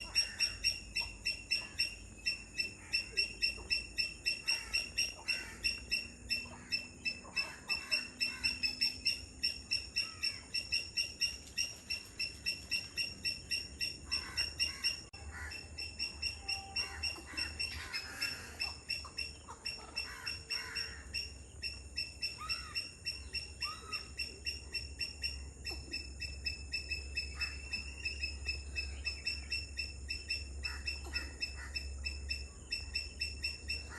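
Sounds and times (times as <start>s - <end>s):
lower bird calls: 0.0s - 33.9s
rapid high chirping: 0.0s - 33.9s.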